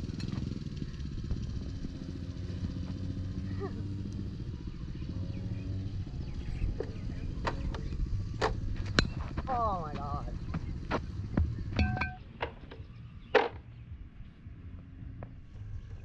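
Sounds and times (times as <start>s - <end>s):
small motor droning: 0.0s - 16.0s.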